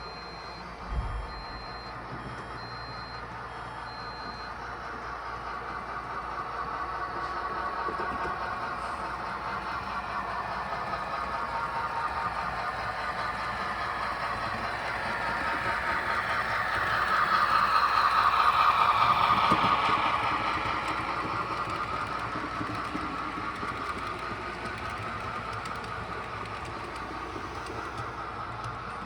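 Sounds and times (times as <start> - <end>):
model train motor and wheels: 4.6 - 29.0.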